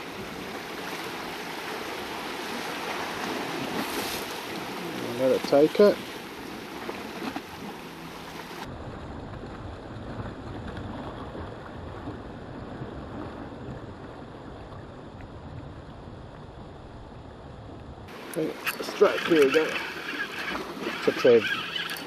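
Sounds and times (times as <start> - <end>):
sea wash on rocks: 0.0 - 14.2, 18.1 - 22.0.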